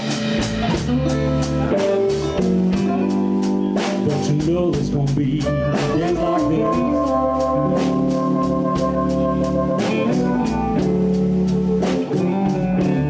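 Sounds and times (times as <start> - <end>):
live blues band playing: 0.0 - 13.0.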